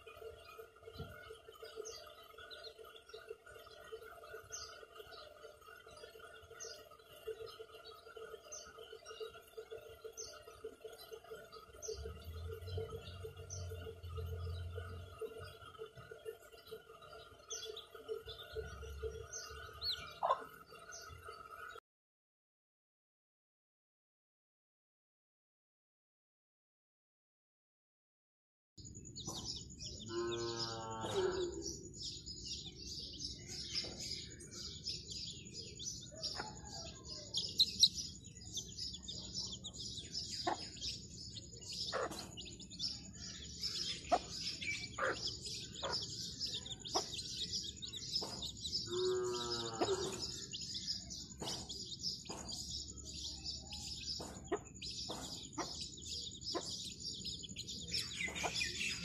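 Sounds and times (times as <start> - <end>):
chicks peeping: 0.0 - 21.7, 29.0 - 59.0.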